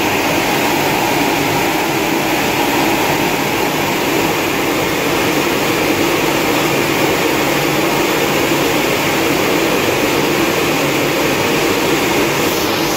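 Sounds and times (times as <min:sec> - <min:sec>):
machinery hum: 0:00.0 - 0:12.9.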